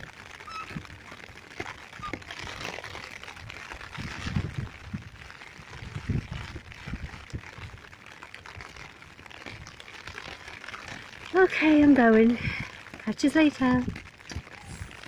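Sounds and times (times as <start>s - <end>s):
hiss of wind and rain: 0.0s - 15.0s
wind buffeting microphone: 0.0s - 15.0s.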